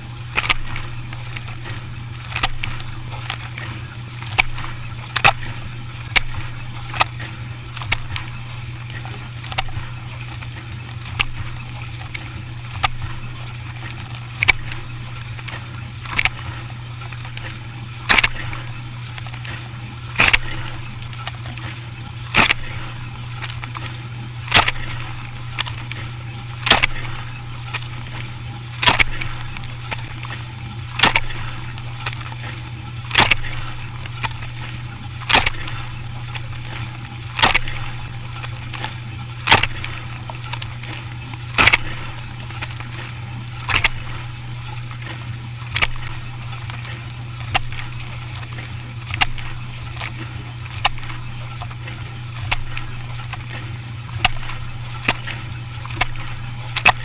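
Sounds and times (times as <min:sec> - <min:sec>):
machine humming: 0:00.0 - 0:57.0
sharp mechanical clicks: 0:00.0 - 0:57.0.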